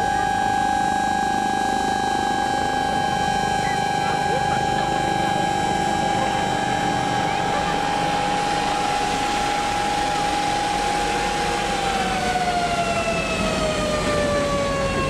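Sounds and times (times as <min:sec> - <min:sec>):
engine running: 0:00.0 - 0:15.0
fire engine siren wailing: 0:00.0 - 0:15.0.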